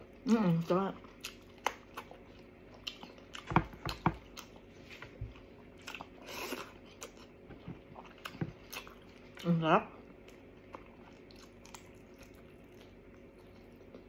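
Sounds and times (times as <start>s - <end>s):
person chewing with wet mouth smacks: 1.0s - 9.5s, 10.1s - 14.0s.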